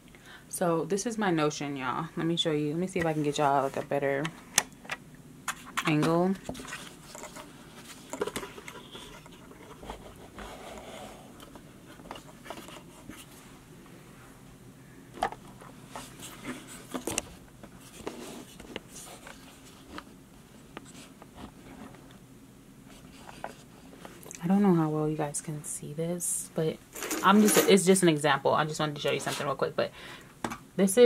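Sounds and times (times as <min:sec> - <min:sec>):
faint room noise: 0:00.0 - 0:31.0.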